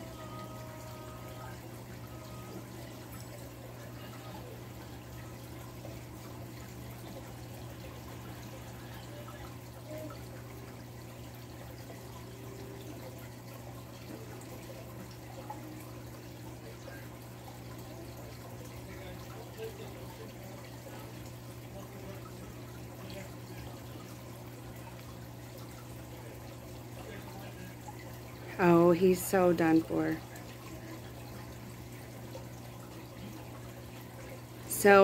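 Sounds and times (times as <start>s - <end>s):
aquarium equipment humming: 0.0s - 35.0s
water trickling: 0.0s - 35.0s.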